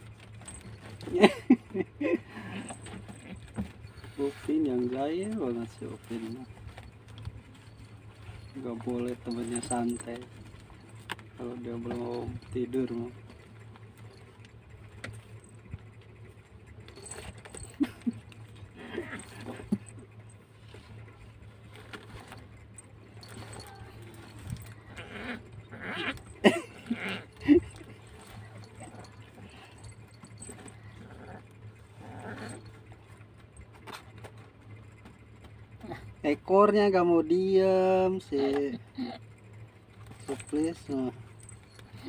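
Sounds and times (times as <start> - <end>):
collar bell jingling: 0.0 - 42.0
kittens scuffling: 0.0 - 42.0
steady low hum: 0.0 - 42.0.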